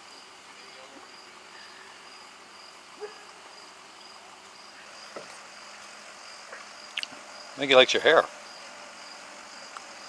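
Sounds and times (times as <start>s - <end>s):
faint insect chirring: 0.0s - 10.0s.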